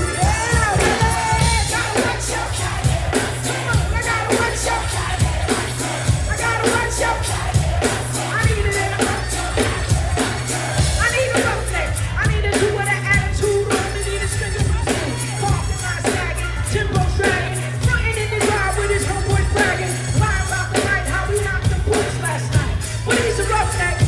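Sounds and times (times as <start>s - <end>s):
rapping over heavy beat: 0.0s - 24.0s.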